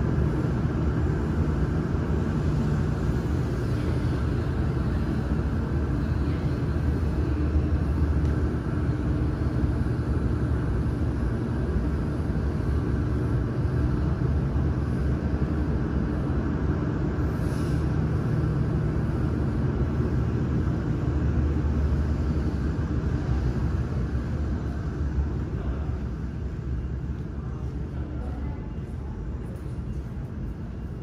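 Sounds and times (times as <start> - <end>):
factory hall rumble: 0.0 - 31.0.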